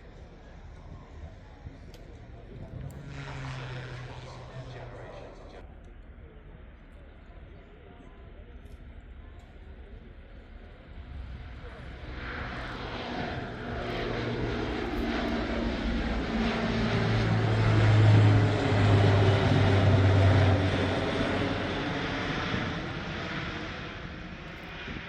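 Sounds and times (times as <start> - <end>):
aircraft engines passing: 0.0 - 25.0.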